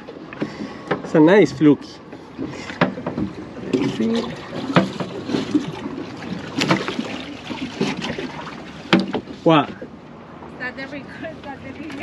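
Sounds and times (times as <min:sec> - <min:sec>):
knocks and clatter on boat: 0:00.0 - 0:12.0
water: 0:00.0 - 0:12.0
wind: 0:00.0 - 0:12.0.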